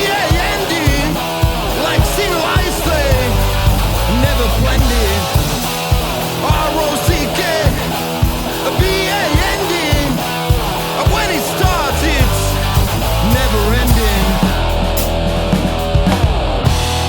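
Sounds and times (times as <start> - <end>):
rock band song: 0.0 - 17.0.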